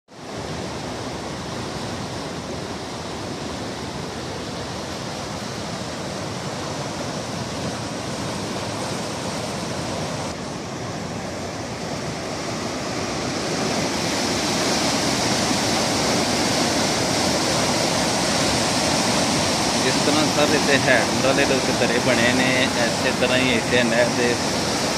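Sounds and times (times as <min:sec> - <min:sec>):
water churning at sluice gate: 0:00.1 - 0:24.9
floodwater rushing: 0:00.2 - 0:24.9.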